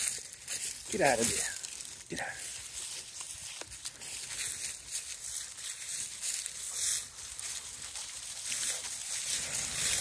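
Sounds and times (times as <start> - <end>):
dry leaves rustling: 0.0 - 10.0.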